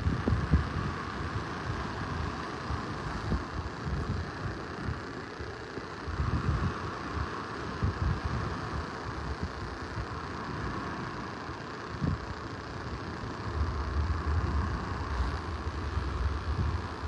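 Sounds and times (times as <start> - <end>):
muffled rain hiss on microphone: 0.0 - 17.0
wind rumbling on microphone: 0.0 - 17.0.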